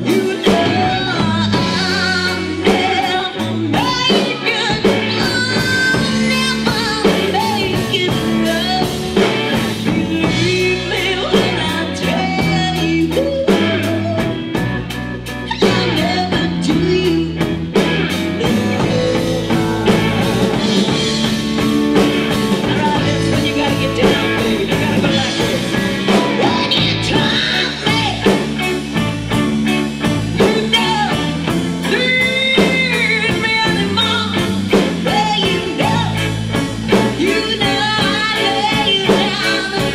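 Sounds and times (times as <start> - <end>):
person singing: 0.0 - 14.6, 15.5 - 28.8, 30.0 - 39.9
bass: 0.0 - 39.9
guitar: 0.0 - 39.9
steady drumbeat: 0.0 - 39.9.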